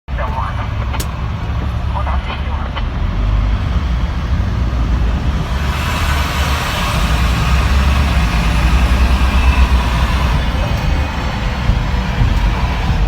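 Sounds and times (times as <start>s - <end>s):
vehicle engine rumble: 0.1s - 13.0s.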